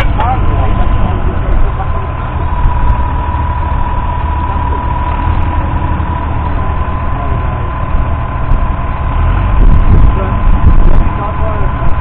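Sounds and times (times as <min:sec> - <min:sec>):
high whine: 0:00.0 - 0:12.0
tractor diesel engine rumbling: 0:00.0 - 0:12.0.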